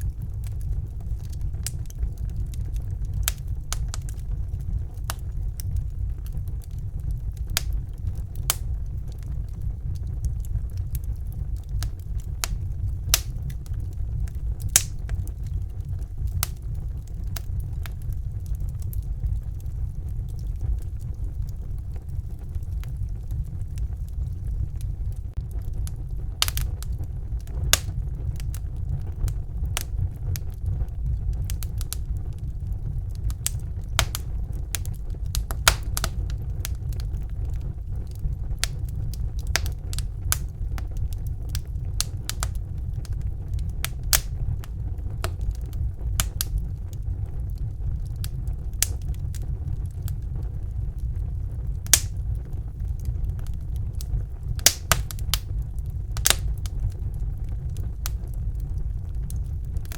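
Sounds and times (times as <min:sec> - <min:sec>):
fire snaps and pops: 0:00.0 - 0:59.9
low rumble of burning fire: 0:00.0 - 0:59.9.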